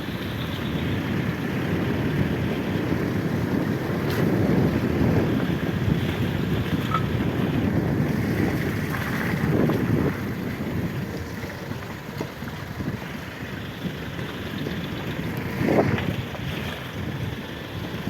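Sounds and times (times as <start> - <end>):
vehicle engine running: 0.0 - 18.0
wind buffeting microphone: 0.0 - 18.0.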